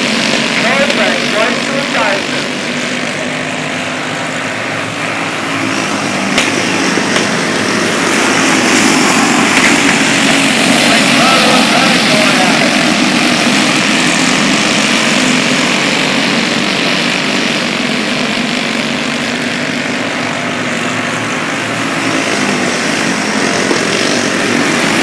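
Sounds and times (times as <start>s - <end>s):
racing kart engines droning: 0.0s - 25.0s.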